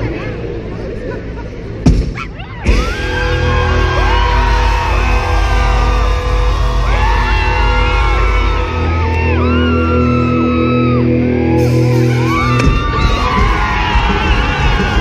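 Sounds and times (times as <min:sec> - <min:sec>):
crowd whooping and singing along: 0:02.4 - 0:15.0
live rock band playing: 0:02.6 - 0:15.0.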